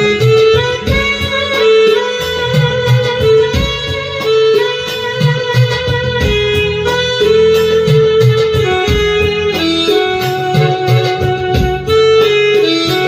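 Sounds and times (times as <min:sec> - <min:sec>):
keyboard melody: 0:00.0 - 0:13.0
programmed drum beat: 0:00.0 - 0:13.0.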